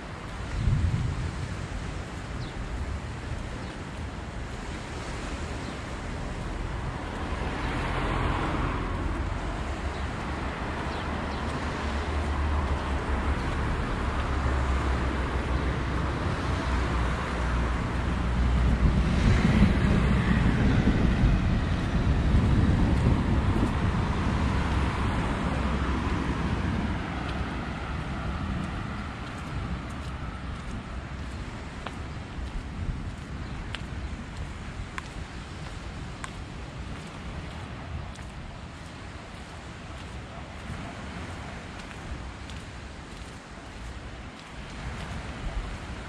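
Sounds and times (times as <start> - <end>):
cars passing: 0.0 - 46.0
wind rumble on microphone: 0.0 - 46.0.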